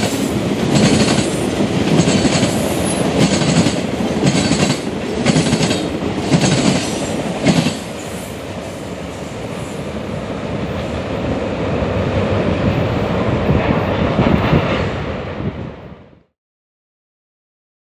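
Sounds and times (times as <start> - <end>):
freight train rumble and rattle: 0.0 - 16.1.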